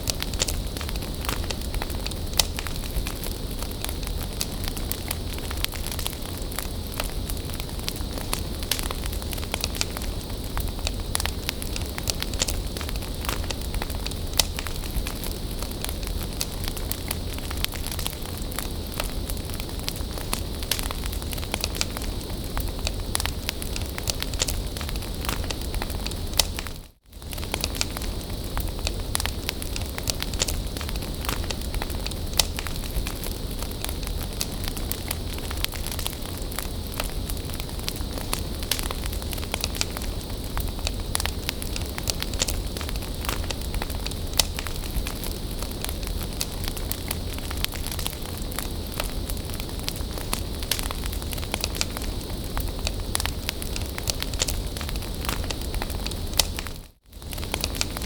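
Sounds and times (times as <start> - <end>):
bonfire crackling and popping: 0.0 - 58.0
flames hissing and rumbling: 0.0 - 58.0.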